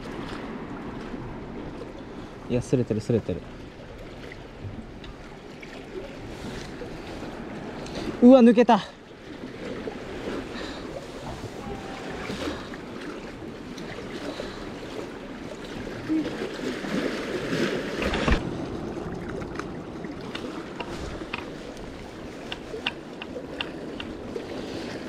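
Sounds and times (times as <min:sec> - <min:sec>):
sea water lapping on concrete: 0:00.0 - 0:25.0.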